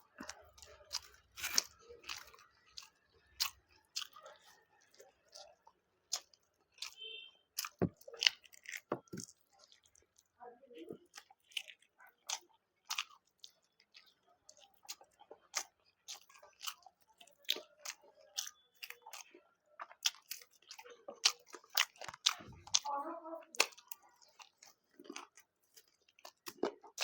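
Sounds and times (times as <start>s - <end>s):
person chewing food wetly: 0.0s - 27.0s.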